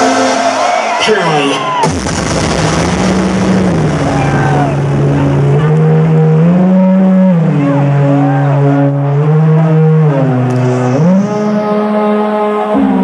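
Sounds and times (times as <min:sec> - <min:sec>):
crowd whistling and cheering: 0:00.0 - 0:13.0
deep synth drone: 0:00.0 - 0:13.0.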